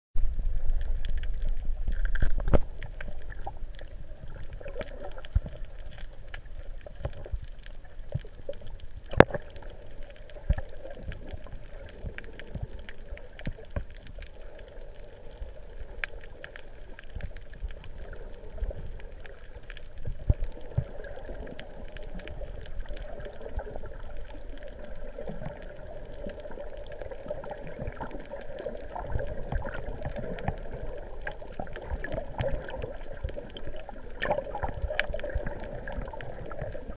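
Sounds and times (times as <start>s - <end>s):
muffled underwater rumble: 0.2s - 36.9s
sharp clicks and pops: 0.6s - 36.9s.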